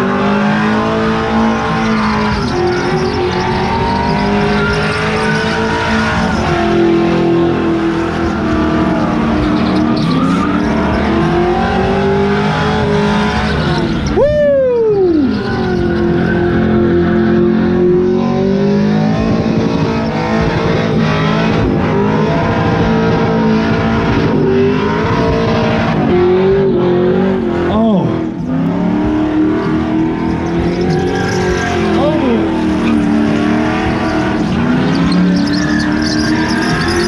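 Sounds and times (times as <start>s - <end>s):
truck engine revving high: 0.0s - 37.0s.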